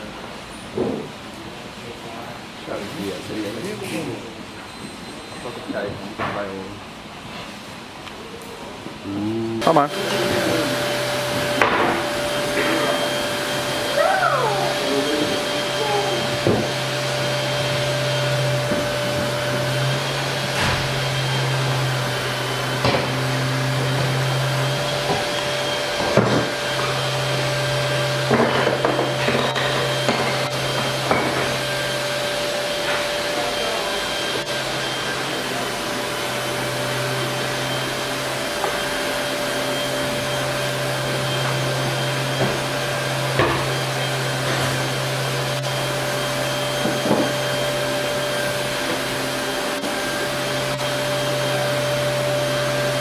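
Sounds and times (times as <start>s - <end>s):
machine motor drone: 8.2s - 53.0s.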